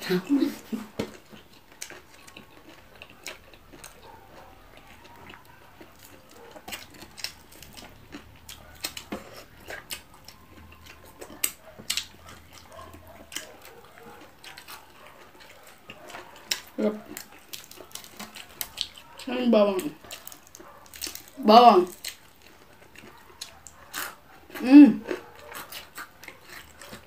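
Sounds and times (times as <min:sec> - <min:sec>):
chewing and lip smacks: 0:00.7 - 0:27.0
fingers picking at food: 0:00.8 - 0:27.0.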